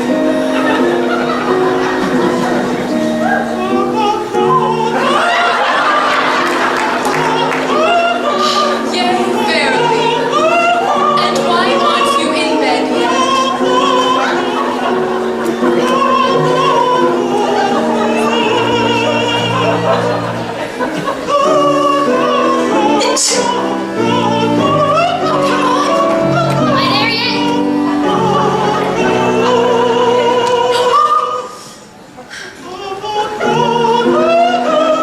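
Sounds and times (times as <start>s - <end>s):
instrumental accompaniment: 0.0s - 30.9s
person singing with vibrato: 0.0s - 35.0s.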